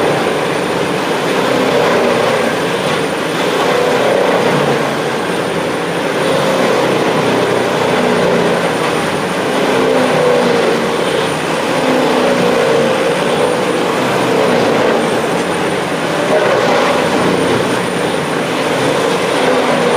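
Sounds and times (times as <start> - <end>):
tub grinder grinding wood: 0.0 - 19.9.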